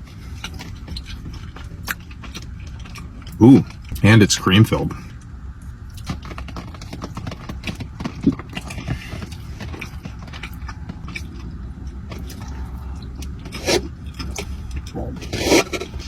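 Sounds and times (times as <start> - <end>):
chewing with mouth clicks: 0.0 - 4.1, 5.1 - 16.0
steady low rumble: 0.0 - 16.0.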